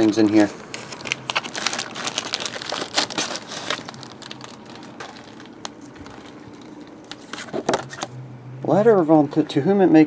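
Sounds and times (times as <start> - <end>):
packaging crinkling: 0.0 - 8.1.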